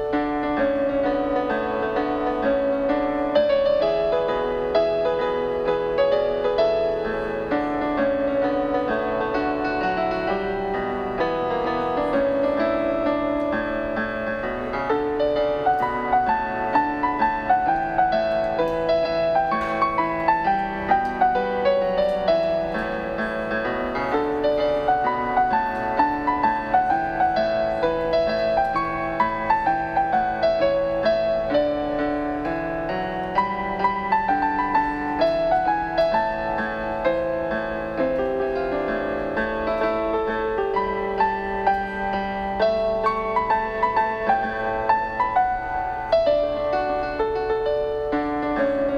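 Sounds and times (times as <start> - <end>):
piano music: 0.0 - 48.9.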